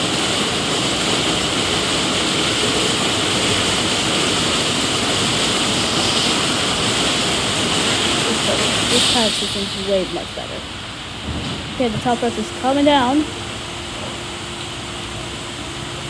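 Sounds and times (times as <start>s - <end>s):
water spray rushing: 0.0s - 13.4s.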